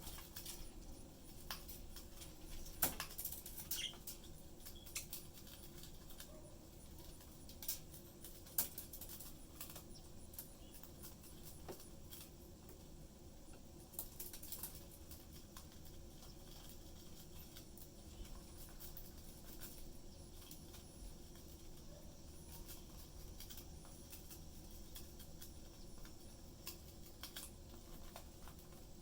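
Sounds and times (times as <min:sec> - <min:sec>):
budgies clicking and scratching: 0:00.0 - 0:29.0
faint low background hum: 0:00.0 - 0:29.0.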